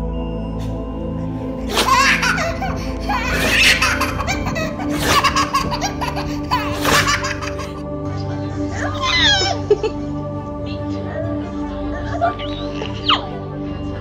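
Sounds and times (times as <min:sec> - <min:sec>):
background music: 0:00.0 - 0:14.0
baby laughing: 0:01.6 - 0:14.0.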